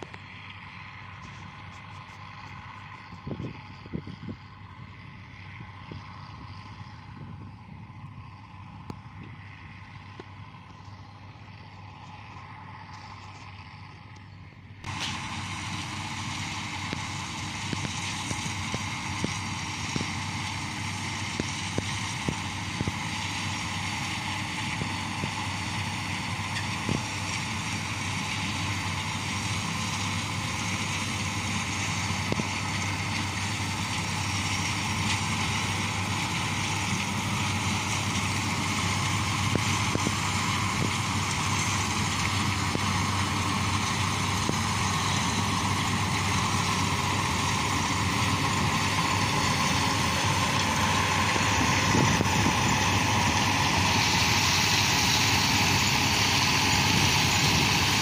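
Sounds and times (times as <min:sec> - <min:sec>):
diesel engine drone: 0:00.0 - 0:58.0
rush of working machinery: 0:00.0 - 0:58.0.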